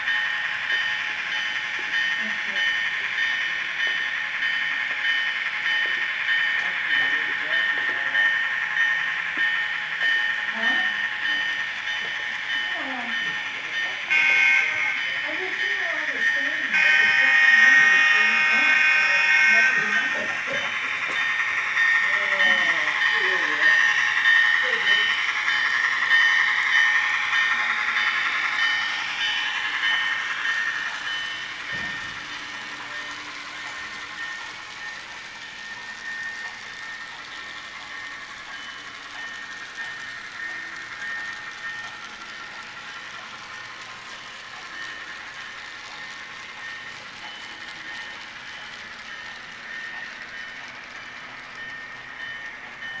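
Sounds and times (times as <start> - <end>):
model train rolling on track: 0.0 - 53.0.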